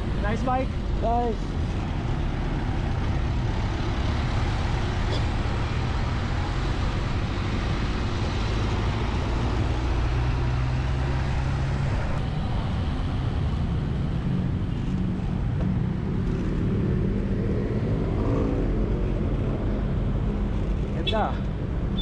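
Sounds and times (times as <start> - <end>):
motor traffic rumble: 0.0 - 22.0.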